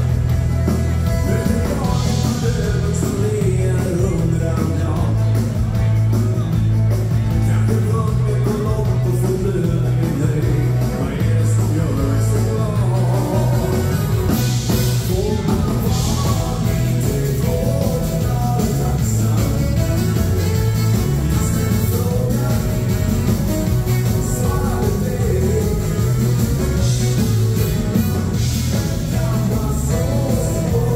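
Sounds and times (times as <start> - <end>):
dance band playing: 0.0 - 30.9
man singing: 0.7 - 30.9.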